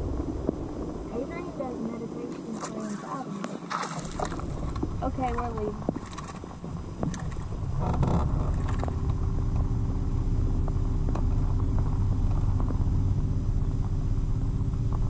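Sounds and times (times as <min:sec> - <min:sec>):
boat motor rumbling: 0:00.0 - 0:15.0.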